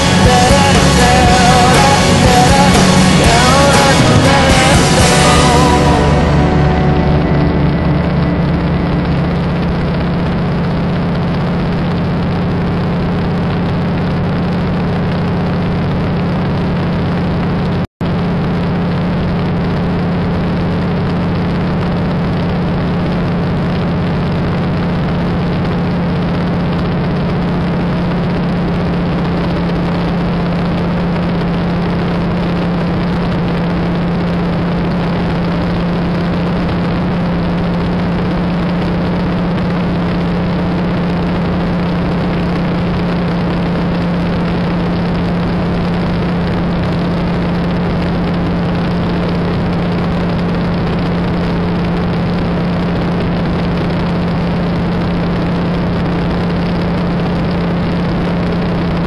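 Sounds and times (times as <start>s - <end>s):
propeller plane engine droning: 1.5s - 59.0s.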